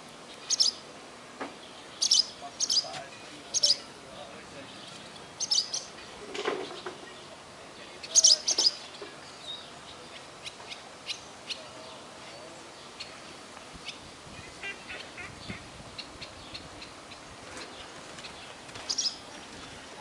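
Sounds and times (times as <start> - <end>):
background hiss: 0.0 - 20.0
birds chirping: 0.0 - 20.0.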